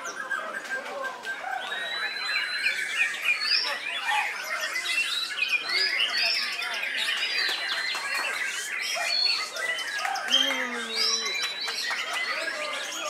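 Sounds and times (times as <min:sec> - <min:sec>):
chorus of songbirds: 0:00.0 - 0:13.0
songbird singing: 0:00.0 - 0:13.0.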